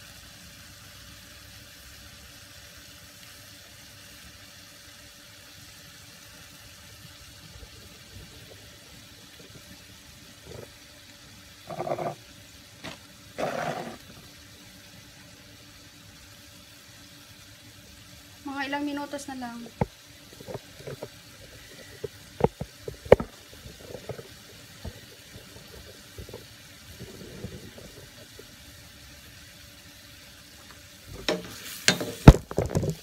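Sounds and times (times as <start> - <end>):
pan of vegetables bubbling: 0.0 - 33.0.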